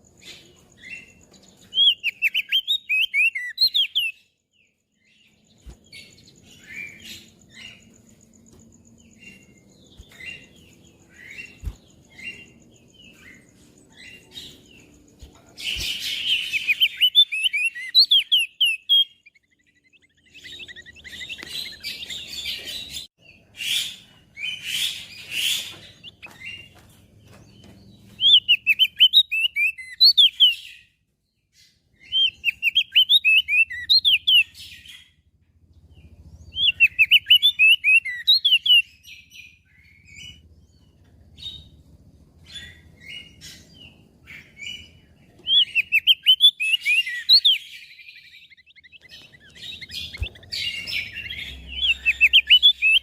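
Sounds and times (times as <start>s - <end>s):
bird twittering chirps: 0.0s - 53.0s.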